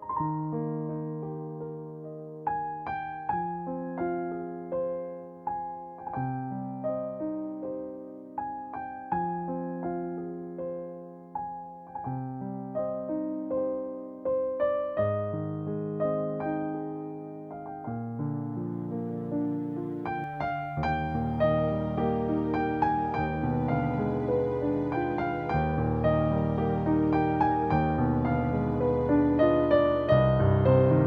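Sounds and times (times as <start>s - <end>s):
soft slow piano music: 0.0s - 31.0s.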